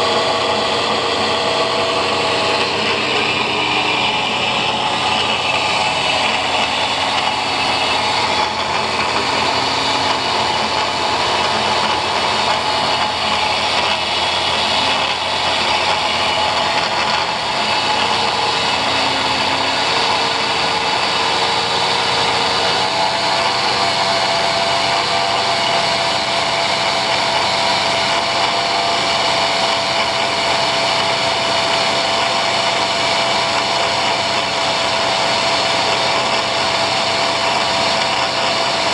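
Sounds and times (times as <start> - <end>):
angle grinder cutting: 0.0 - 38.9.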